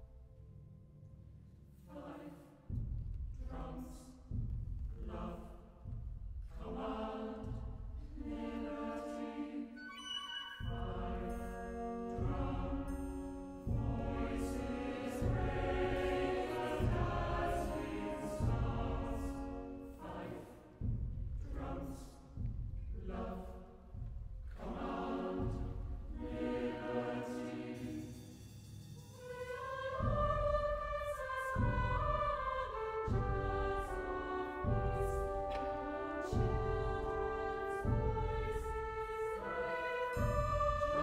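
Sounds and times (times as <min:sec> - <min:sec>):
choir singing with orchestra: 0:01.8 - 0:41.0.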